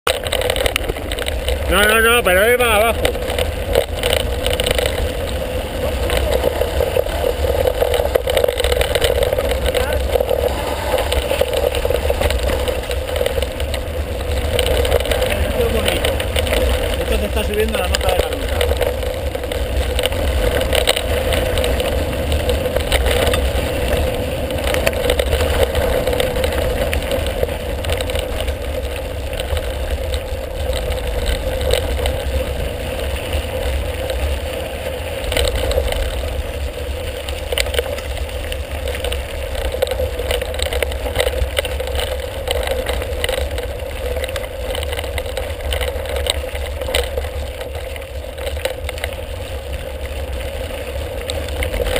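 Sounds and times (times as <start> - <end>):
bike rattling over bumps: 0.0 - 51.9
tyres on gravel: 0.0 - 51.9
wind rumble on microphone: 0.1 - 51.9.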